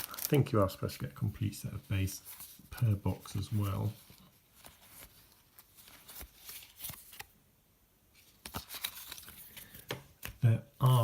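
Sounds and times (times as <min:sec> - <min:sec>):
cards rustling: 0:00.0 - 0:07.4, 0:08.2 - 0:11.0.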